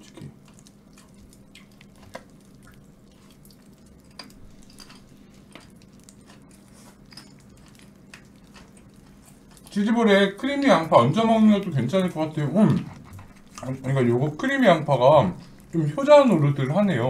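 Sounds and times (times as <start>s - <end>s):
faint steady hum: 0.0s - 17.0s
quiet chewing: 0.0s - 17.0s.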